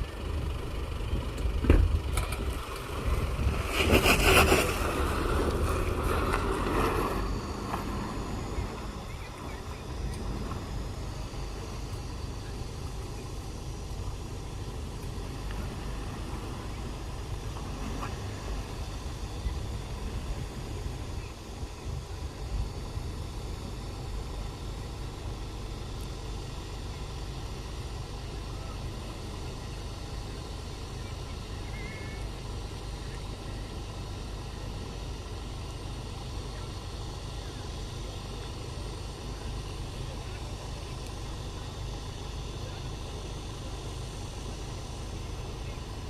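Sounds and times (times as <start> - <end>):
vehicle engine rumbling: 0.0 - 46.0.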